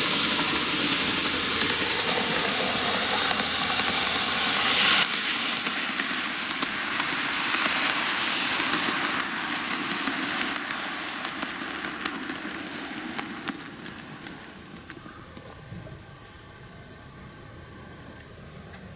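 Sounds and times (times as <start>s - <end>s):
model train whirring and rattling: 0.0s - 18.9s.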